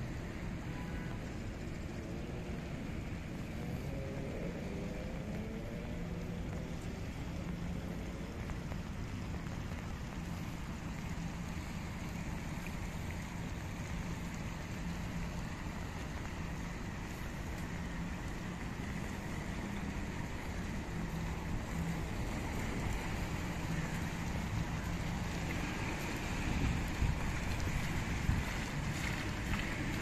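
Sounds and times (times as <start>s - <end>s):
fountain water splashing: 0.0s - 30.0s
rain: 0.0s - 30.0s.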